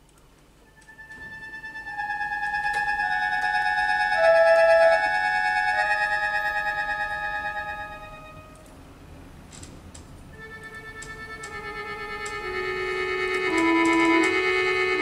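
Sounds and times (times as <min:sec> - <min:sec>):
accordion playing sustained chords: 0:00.6 - 0:08.7, 0:10.3 - 0:15.0.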